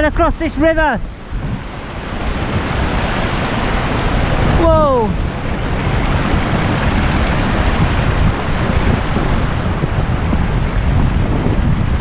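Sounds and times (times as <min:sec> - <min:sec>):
river rushing over rocks: 0:00.0 - 0:12.0
wind buffeting microphone: 0:00.0 - 0:12.0.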